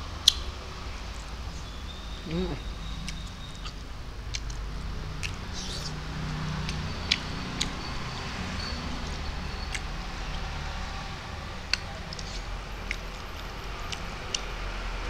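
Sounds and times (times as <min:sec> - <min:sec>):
man chewing food: 0:02.2 - 0:10.8, 0:11.5 - 0:15.0.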